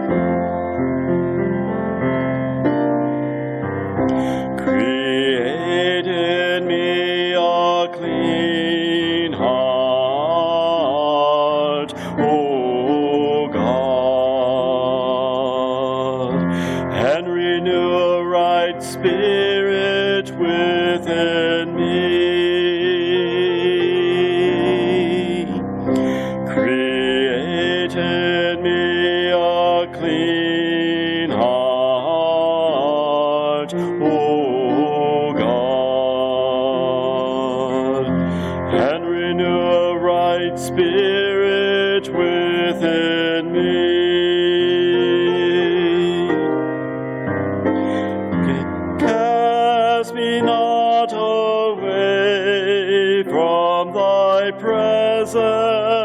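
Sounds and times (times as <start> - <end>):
instrumental accompaniment: 0.0 - 56.0
man singing worship song: 4.1 - 46.5, 47.9 - 56.0.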